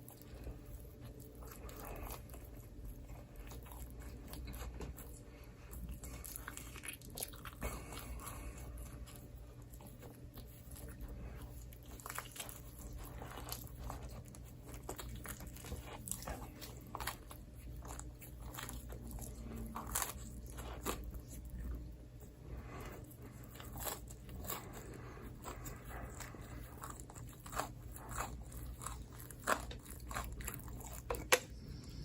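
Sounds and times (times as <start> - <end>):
crunchy biting and chewing: 0.0 - 32.0.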